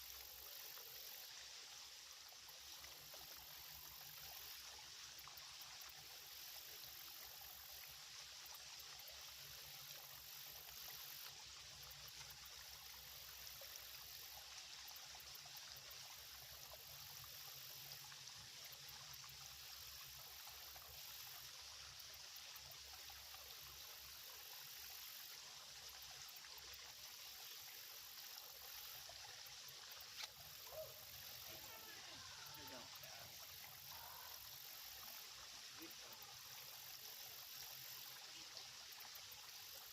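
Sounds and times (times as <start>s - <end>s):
creek trickling: 0.0s - 39.9s.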